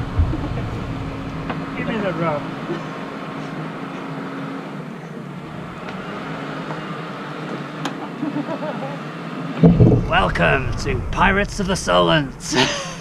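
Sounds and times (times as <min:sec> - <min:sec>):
boat engine running: 0:00.0 - 0:07.5, 0:09.6 - 0:13.0.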